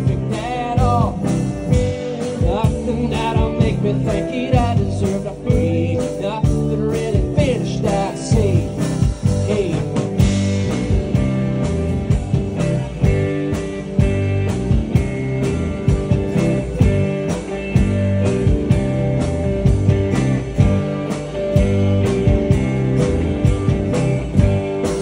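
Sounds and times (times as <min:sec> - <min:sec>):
lead guitar bending notes: 0:00.0 - 0:25.0
live blues-rock band: 0:00.0 - 0:25.0.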